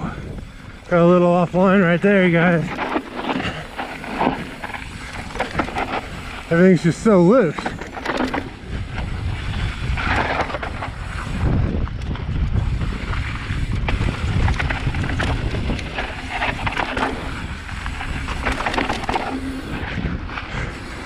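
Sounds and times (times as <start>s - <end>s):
bike clicks and rattles: 0.0s - 21.0s
tyres sliding on loose dirt: 0.0s - 21.0s
wind buffeting microphone: 0.0s - 21.0s.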